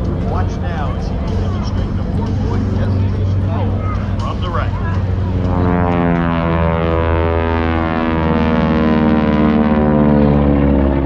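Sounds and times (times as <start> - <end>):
propeller aircraft droning: 0.0 - 11.0.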